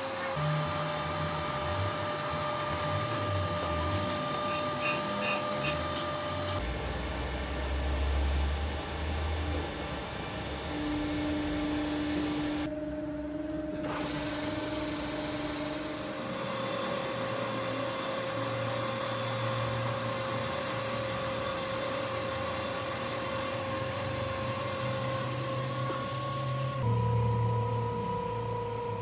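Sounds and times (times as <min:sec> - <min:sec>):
milling machine motor whine: 0:00.0 - 0:06.6, 0:07.6 - 0:29.0.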